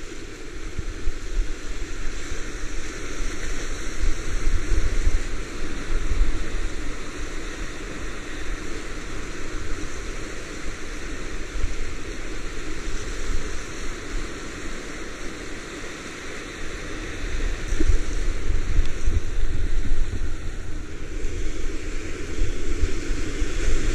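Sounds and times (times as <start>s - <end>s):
whitewater rushing: 0.0s - 23.9s.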